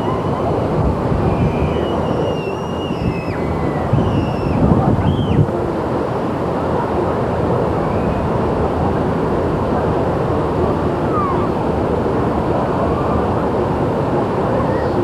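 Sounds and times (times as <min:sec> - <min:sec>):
water rushing along a channel: 0:00.0 - 0:15.0.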